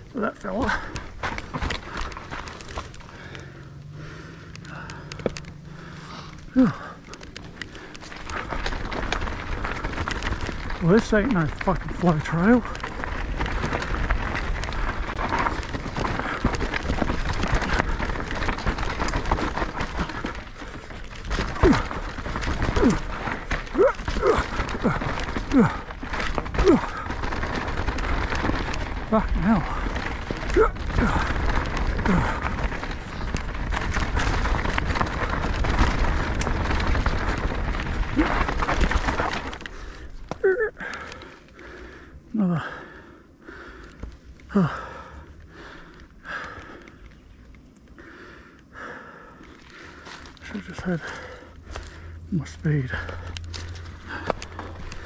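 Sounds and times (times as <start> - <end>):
bike knocking and rattling: 0.0 - 55.0
bike tyres on dirt and rocks: 0.0 - 55.0.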